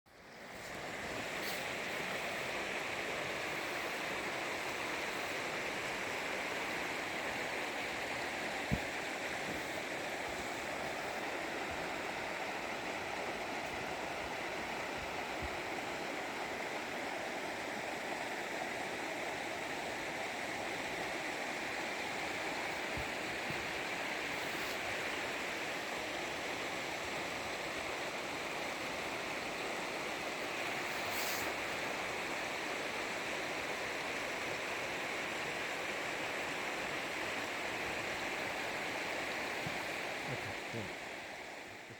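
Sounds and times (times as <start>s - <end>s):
river water rushing: 0.1s - 41.9s.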